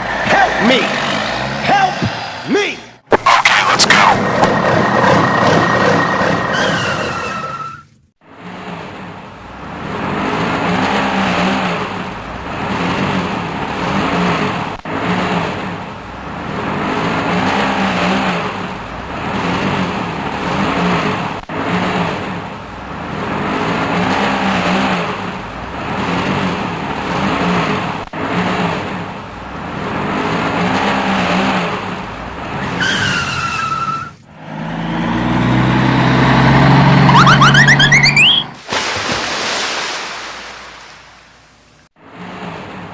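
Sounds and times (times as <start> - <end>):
vehicle engine: 0.0 - 38.6, 41.1 - 42.9.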